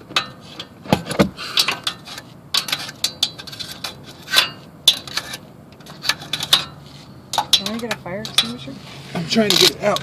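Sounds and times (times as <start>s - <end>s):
sharp metallic knocks: 0.0s - 8.7s
scraping and clinking under car: 0.0s - 10.0s.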